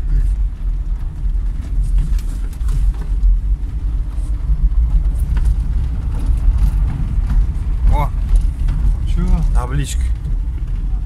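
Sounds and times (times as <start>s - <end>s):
car engine and road rumble: 0.0s - 11.0s
faint clicks and rattles: 0.2s - 11.0s.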